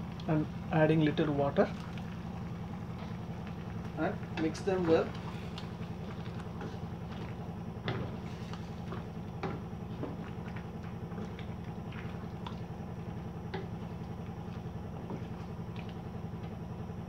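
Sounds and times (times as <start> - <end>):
steady low hum: 0.0 - 17.0
squelching stirring in gravy: 1.7 - 16.2.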